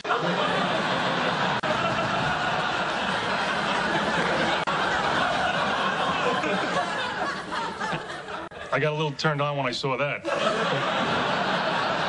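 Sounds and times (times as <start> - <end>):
audience laughing: 0.0 - 9.1, 10.2 - 12.0.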